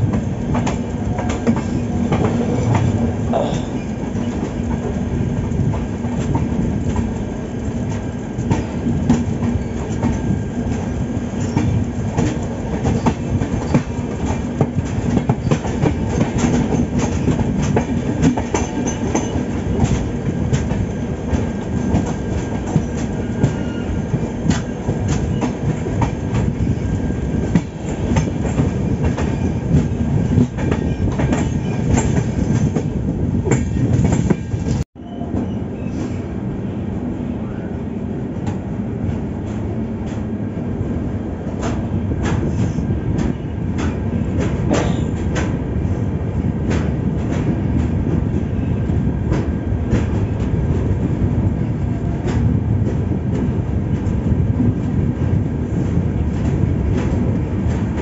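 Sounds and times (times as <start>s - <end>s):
train wheels clickety-clack: 0.0s - 36.2s, 38.4s - 40.4s, 41.4s - 58.0s.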